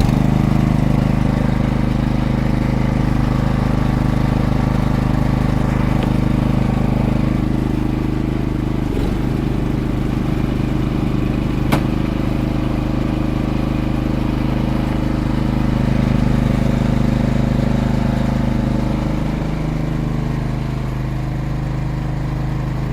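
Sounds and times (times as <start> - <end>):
snow blower engine running: 0.0 - 22.9.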